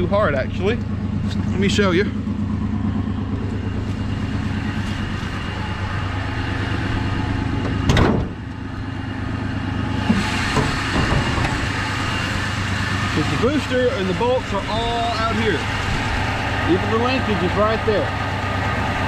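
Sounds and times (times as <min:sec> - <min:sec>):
engine idling smoothly: 0:00.0 - 0:19.0.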